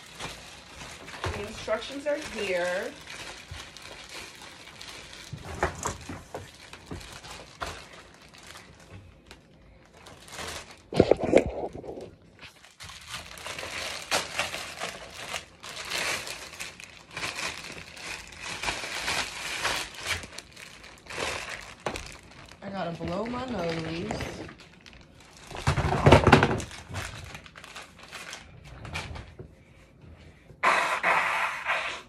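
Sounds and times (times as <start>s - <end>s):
plastic packaging crinkling: 0.0s - 29.3s.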